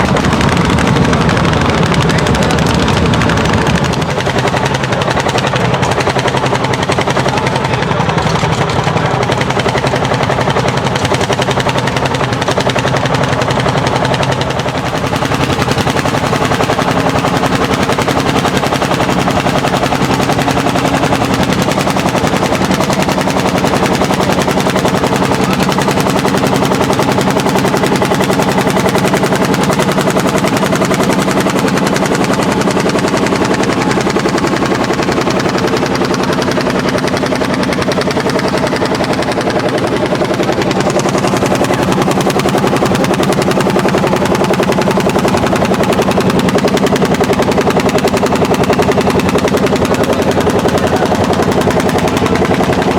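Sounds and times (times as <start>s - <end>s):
tractor engine running hard: 0.0s - 52.9s.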